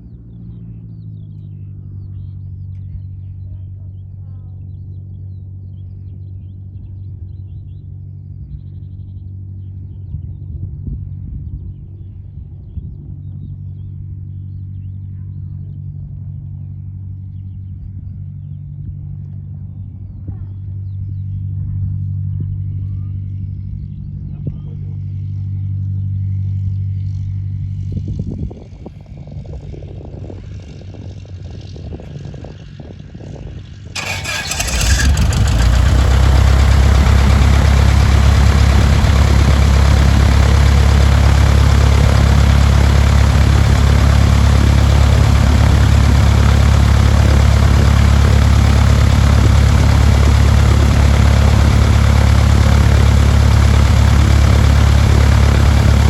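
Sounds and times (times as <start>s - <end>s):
low engine hum: 0.0s - 56.0s
propeller aircraft engine running: 0.0s - 56.0s.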